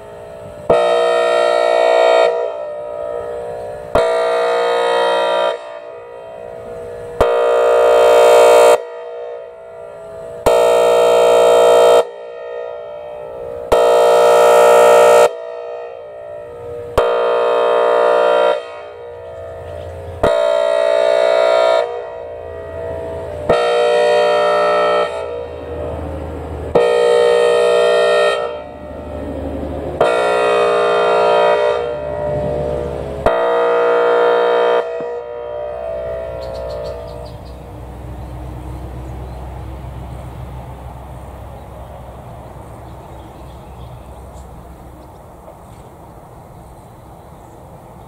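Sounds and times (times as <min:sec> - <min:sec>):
warning siren air horn tone: 0:00.0 - 0:39.0.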